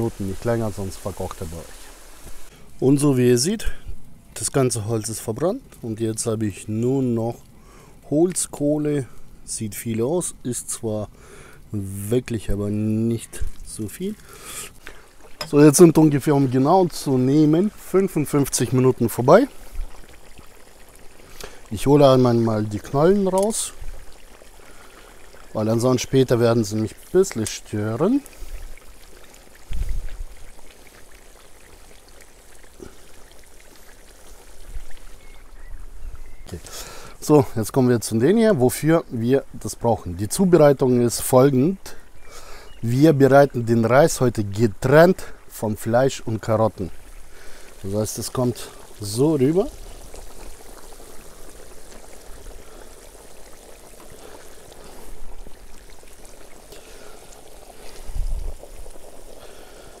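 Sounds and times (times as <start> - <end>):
broth bubbling: 0.0 - 60.0.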